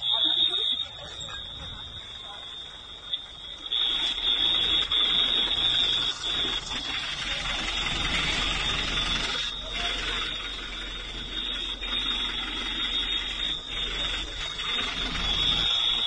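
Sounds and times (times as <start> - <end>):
high-pitched electronic alarm tone: 0.0 - 16.0.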